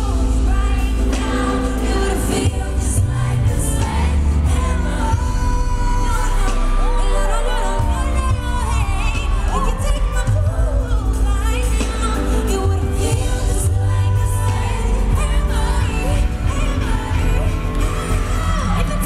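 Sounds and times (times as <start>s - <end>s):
amplified pop backing with bass: 0.0s - 19.0s
girl group singing: 0.0s - 19.0s.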